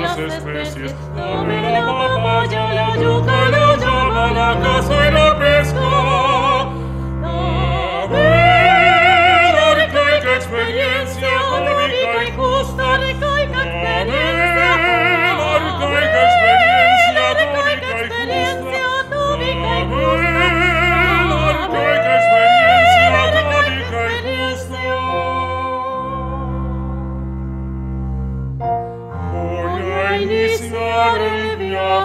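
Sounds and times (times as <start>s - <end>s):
soprano singing with vibrato: 0.0s - 26.8s
ensemble holding low notes: 0.0s - 29.9s.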